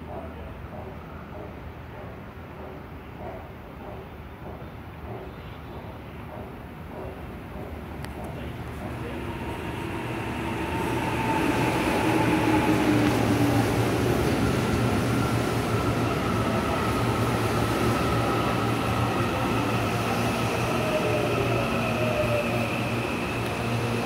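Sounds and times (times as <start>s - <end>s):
train rumbling along rails: 0.0s - 24.0s.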